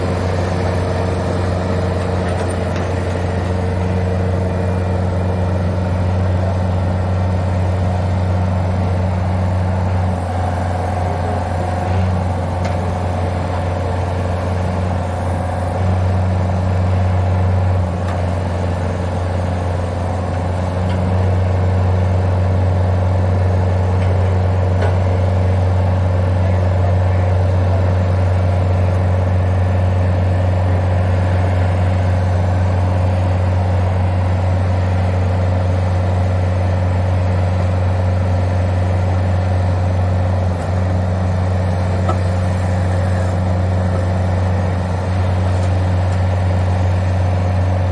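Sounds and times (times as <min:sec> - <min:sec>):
pile driver engine running: 0:00.0 - 0:47.9.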